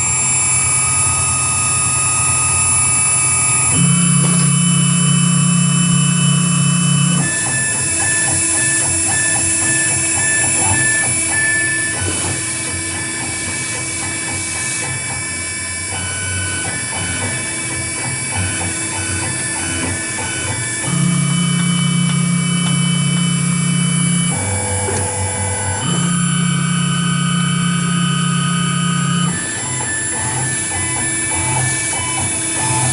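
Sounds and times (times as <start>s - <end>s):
router spindle whine: 0.0s - 32.9s
stepper motor tones: 0.0s - 32.9s.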